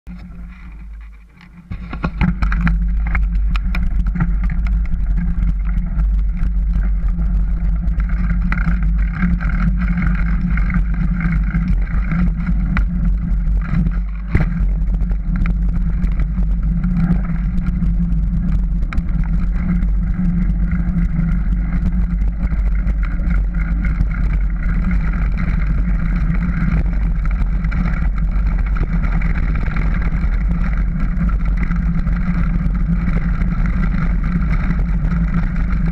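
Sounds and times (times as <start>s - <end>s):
tyres rumbling over gravel: 0.1s - 35.9s
wind buffeting microphone: 0.1s - 35.9s.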